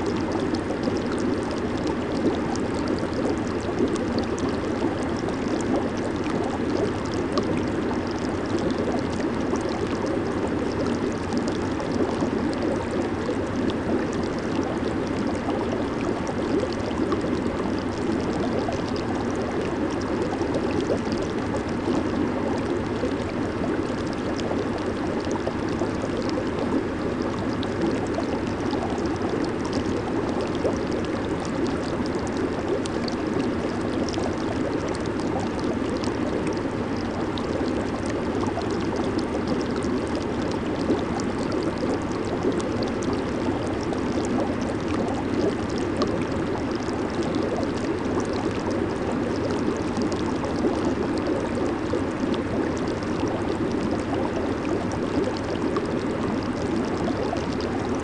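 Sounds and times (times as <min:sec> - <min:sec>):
bubbles popping and fizzing: 0:00.0 - 0:58.0
hot tub water bubbling: 0:00.0 - 0:58.0.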